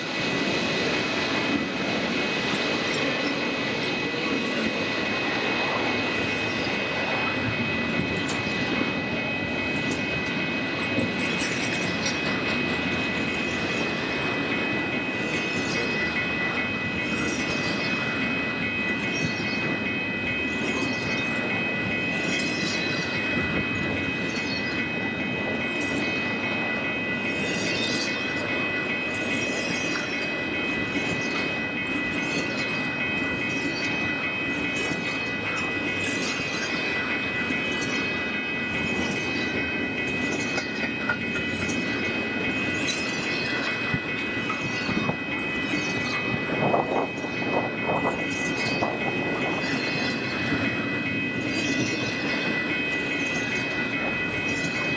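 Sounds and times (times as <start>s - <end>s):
high-pitched ringing tone: 0.0s - 54.9s
train cars rumbling on rails: 0.0s - 54.9s.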